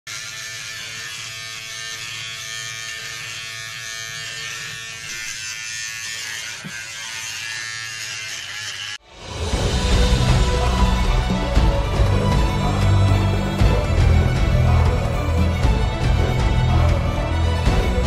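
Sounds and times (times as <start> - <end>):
electric hair clippers buzzing: 0.1 - 18.0.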